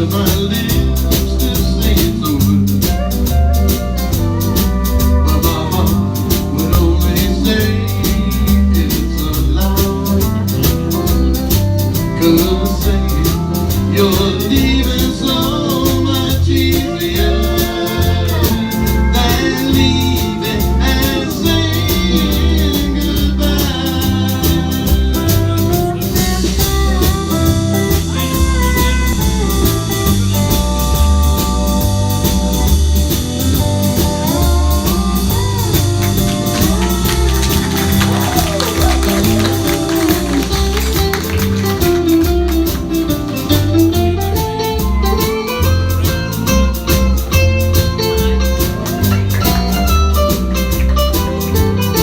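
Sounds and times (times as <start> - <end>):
live country band playing: 0.0 - 52.0
sliding lead instrument melody: 0.0 - 52.0.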